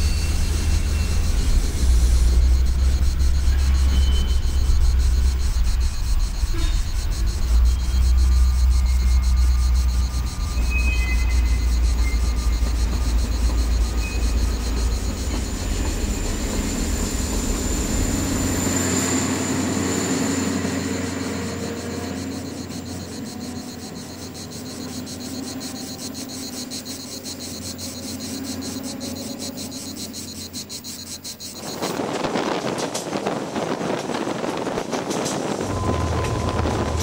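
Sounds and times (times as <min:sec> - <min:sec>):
high wheel squeal: 0:00.0 - 0:32.9
train passing with low rumble: 0:00.0 - 0:37.0.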